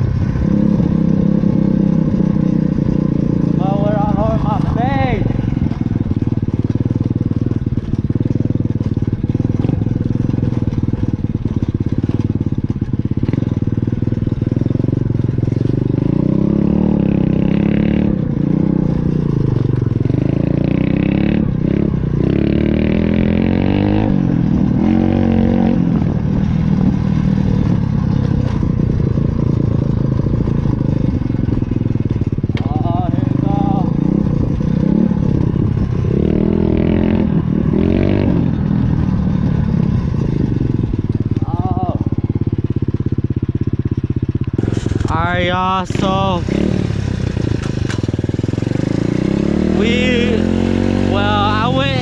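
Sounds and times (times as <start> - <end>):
small motorbike engine revving: 0.0 - 52.0.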